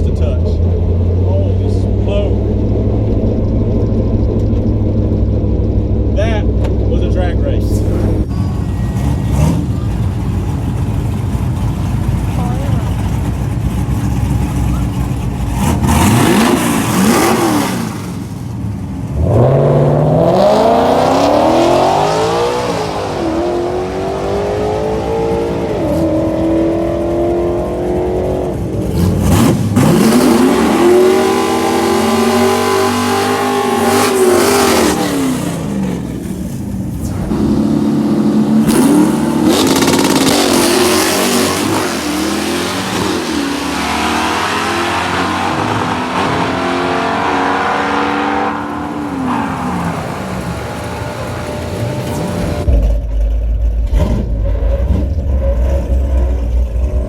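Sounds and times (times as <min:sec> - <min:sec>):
drag racing cars accelerating: 0:00.0 - 0:53.0.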